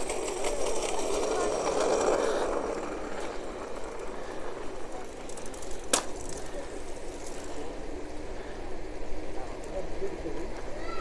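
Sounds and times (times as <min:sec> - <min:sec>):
bicycle tyres rolling on road: 0:00.0 - 0:11.0.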